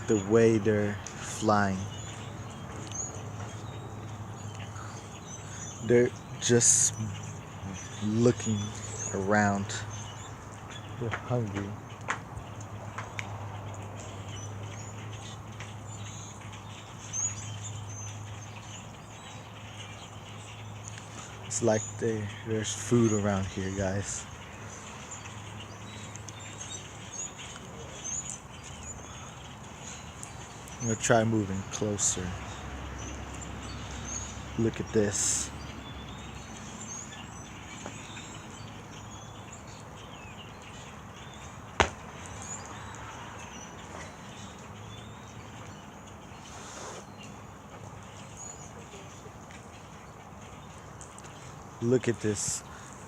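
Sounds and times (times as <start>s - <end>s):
birds chirping: 0.0s - 53.0s
steady outdoor hiss: 0.0s - 53.0s.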